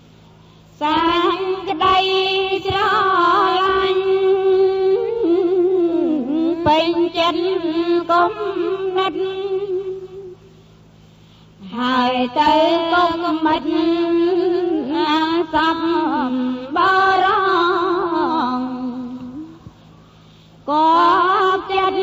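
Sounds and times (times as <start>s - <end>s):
person chanting melodically: 0.8s - 10.4s, 11.6s - 19.7s, 20.7s - 22.0s.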